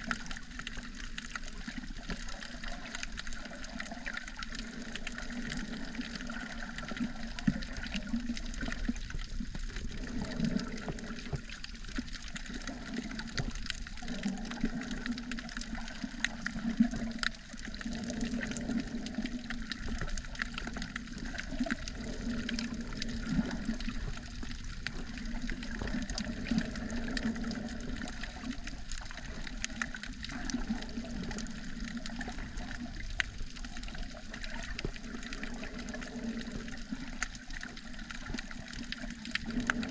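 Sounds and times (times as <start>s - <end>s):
muffled underwater water wash: 0.0s - 39.9s.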